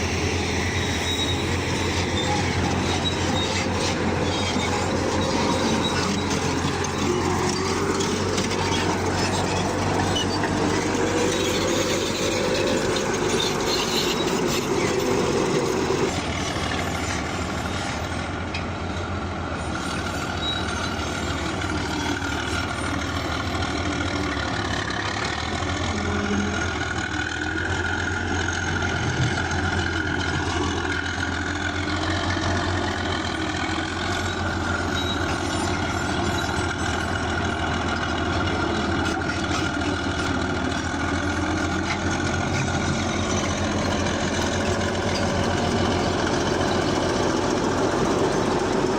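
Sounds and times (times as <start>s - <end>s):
heavy machine engine running: 0.0s - 48.9s.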